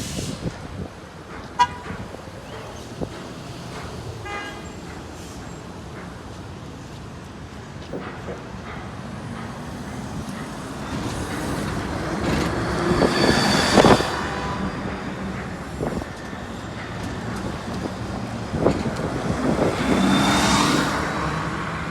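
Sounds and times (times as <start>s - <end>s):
buses passing in traffic: 0.0s - 21.9s.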